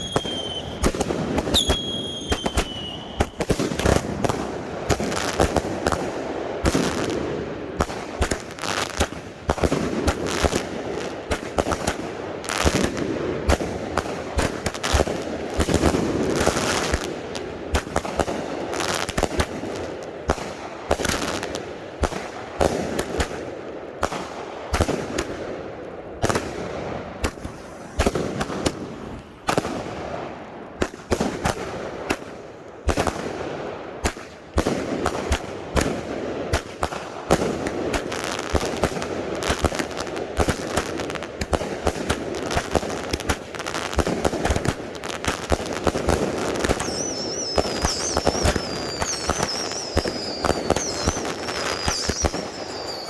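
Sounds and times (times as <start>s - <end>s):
fireworks crackling: 0.0s - 33.4s, 34.0s - 53.0s
fireworks bangs and pops: 0.0s - 53.0s.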